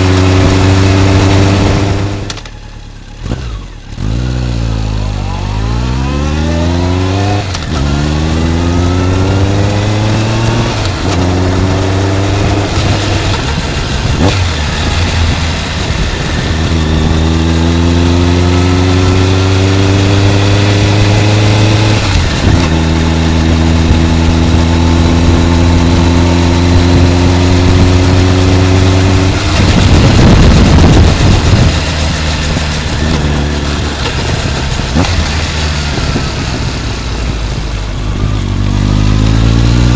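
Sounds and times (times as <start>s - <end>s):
wind noise on microphone: 0.0s - 2.3s, 6.1s - 39.9s
motorcycle engine accelerating: 0.0s - 39.9s.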